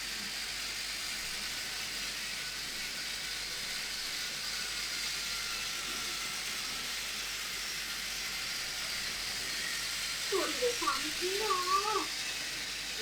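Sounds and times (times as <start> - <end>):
toy train motor whirring: 0.0 - 13.0
toy train wheels hissing: 0.0 - 13.0.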